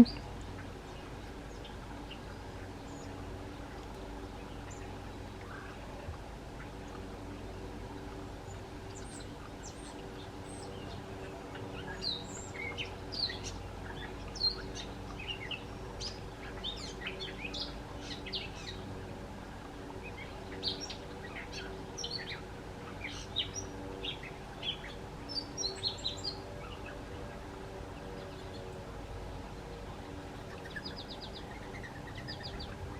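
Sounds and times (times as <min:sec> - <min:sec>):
low mechanical hum: 0:00.0 - 0:32.9
small birds chirping: 0:00.0 - 0:32.9.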